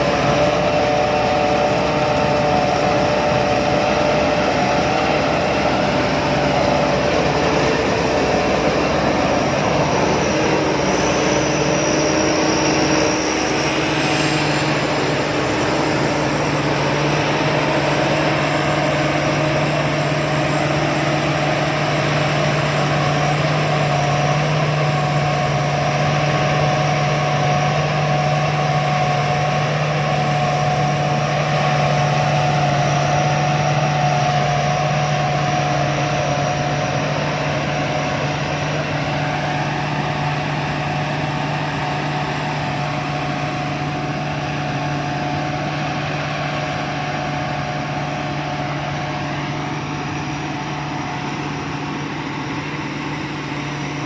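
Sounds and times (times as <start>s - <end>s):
combine harvester engine hum: 0.0s - 54.0s
machinery whine: 0.0s - 54.0s.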